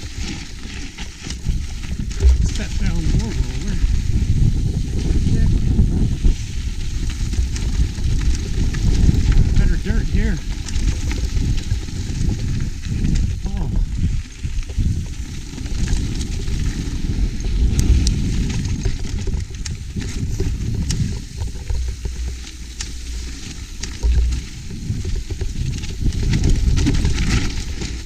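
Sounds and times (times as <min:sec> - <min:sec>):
bike clicks and rattles: 0:00.0 - 0:28.0
tyres crunching over stones: 0:00.0 - 0:28.0
wind buffeting microphone: 0:00.0 - 0:28.0.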